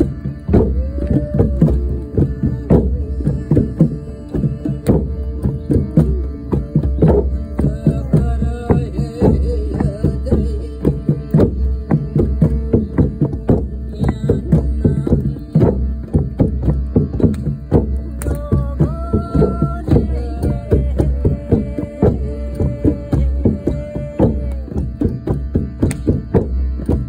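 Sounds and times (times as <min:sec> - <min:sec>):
hand drums played quickly: 0:00.0 - 0:27.0
shruti box drone: 0:00.0 - 0:27.0.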